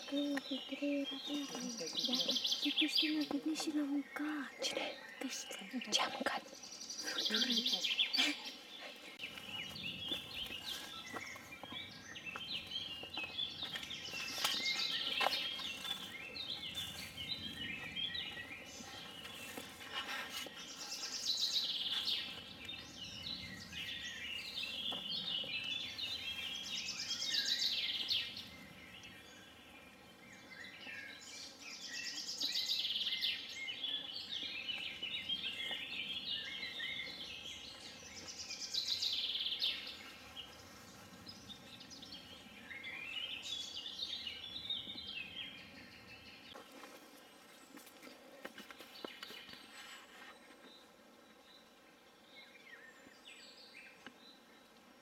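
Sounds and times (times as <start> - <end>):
loud high birdsong: 0.0 - 47.8
birds singing and chirping: 0.0 - 55.0.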